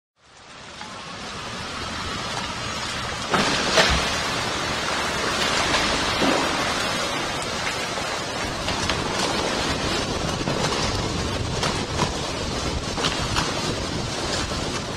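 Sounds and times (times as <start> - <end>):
car wash water spray: 0.4 - 14.9.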